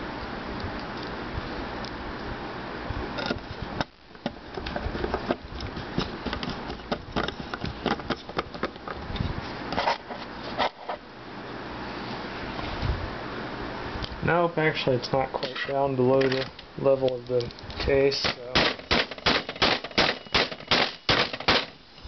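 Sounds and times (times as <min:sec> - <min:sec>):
steady low buzz: 0:00.0 - 0:07.8, 0:09.0 - 0:22.0.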